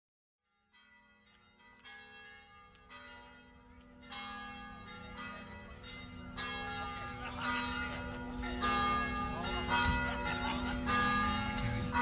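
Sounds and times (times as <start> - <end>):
church bells ringing: 0.4 - 12.0.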